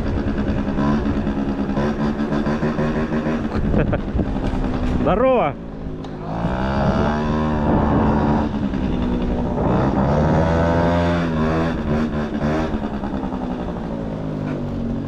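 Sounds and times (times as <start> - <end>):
moped engine running: 0.0 - 15.0.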